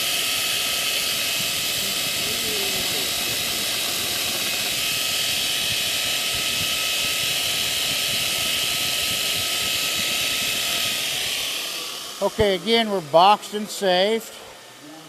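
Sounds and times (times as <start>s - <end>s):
grinder grinding steel: 0.0s - 14.2s.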